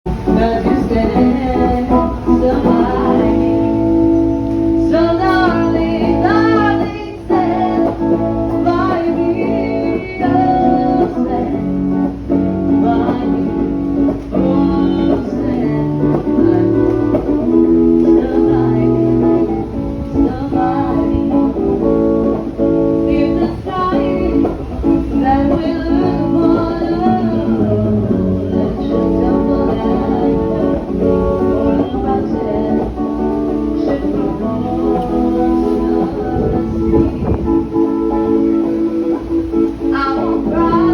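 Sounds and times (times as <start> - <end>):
plucked guitar: 0.0 - 40.9
person singing: 0.1 - 40.9.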